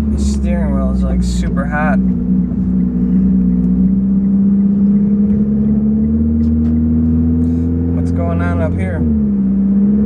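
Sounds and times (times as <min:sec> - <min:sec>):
car engine and exhaust drone: 0:00.0 - 0:10.0.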